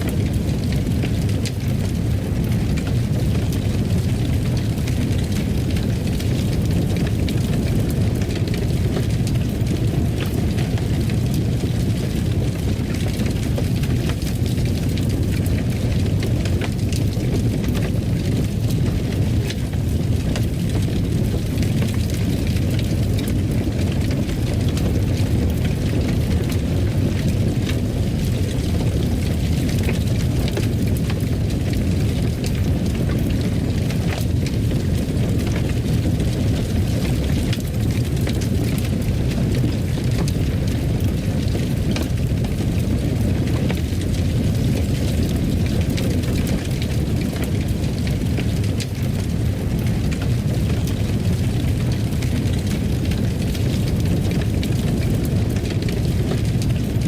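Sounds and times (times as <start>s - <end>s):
fire crackling: 0.0s - 57.0s
fire low rumble: 0.0s - 57.0s.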